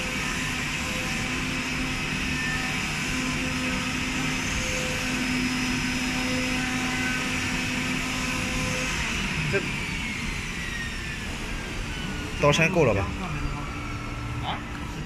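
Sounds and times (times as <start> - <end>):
cutting machine mechanical drone: 0.0 - 15.0
faint motor tones: 0.0 - 15.0.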